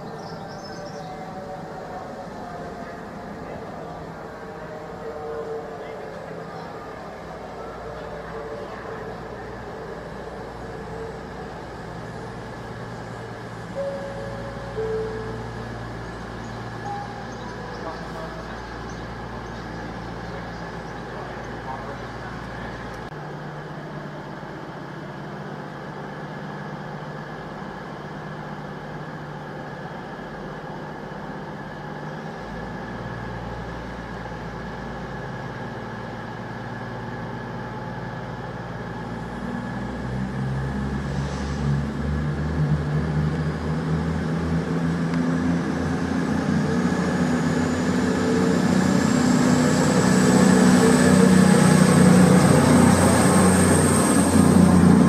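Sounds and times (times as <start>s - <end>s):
diesel train engines revving: 0.0s - 55.0s
rising train whine: 0.0s - 55.0s.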